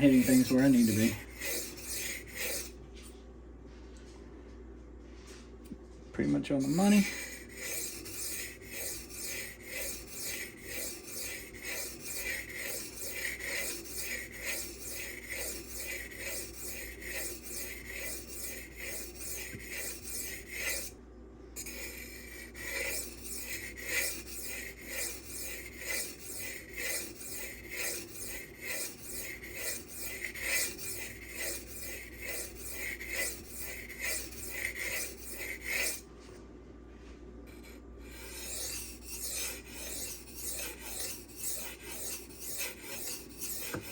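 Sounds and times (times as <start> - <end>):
knife stroking on whetstone: 0.0 - 2.8, 6.5 - 21.0, 21.6 - 36.0, 37.5 - 43.9.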